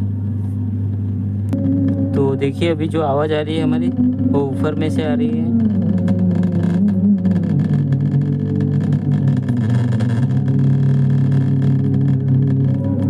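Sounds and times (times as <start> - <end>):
amplifier playing audio: 0.0 - 13.0
loud low hum: 0.0 - 13.0.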